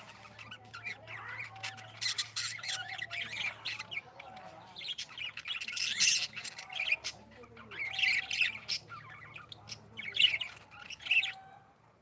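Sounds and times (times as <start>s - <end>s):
budgerigars chattering and squawking: 0.0s - 11.6s.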